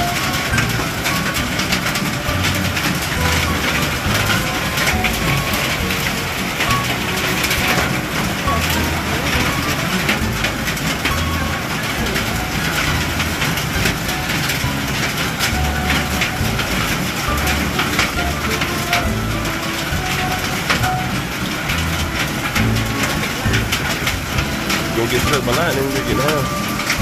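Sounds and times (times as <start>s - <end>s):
hailstones tapping: 0.0s - 27.0s
heavy rain: 0.0s - 27.0s
low rumbles: 0.0s - 27.0s.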